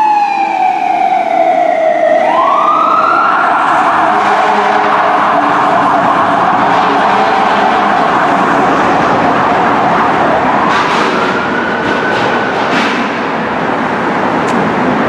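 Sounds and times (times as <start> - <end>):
fire engine siren: 0.0 - 14.0
street traffic noise: 0.0 - 15.0.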